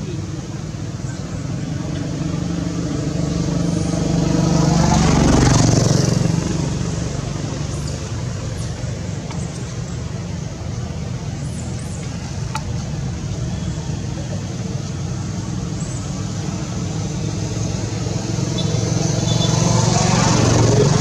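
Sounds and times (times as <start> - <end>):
road traffic hum: 0.0 - 21.0.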